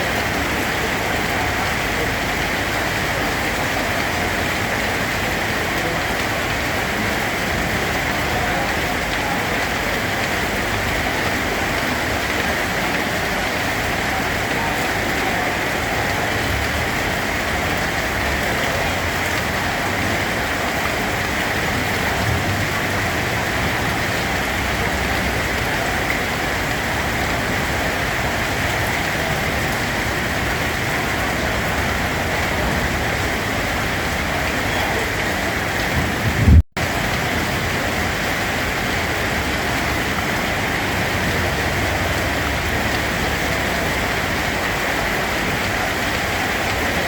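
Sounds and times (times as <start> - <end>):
steady rain hiss: 0.0 - 47.0.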